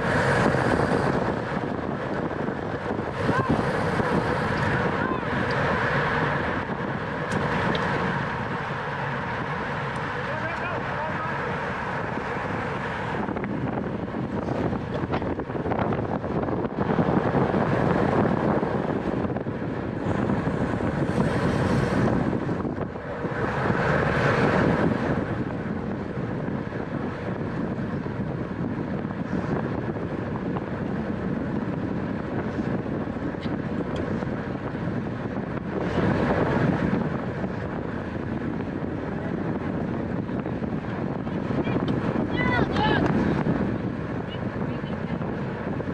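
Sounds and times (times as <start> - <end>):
tyre and road noise: 0.0 - 45.9
wind rushing over microphone: 0.0 - 45.9.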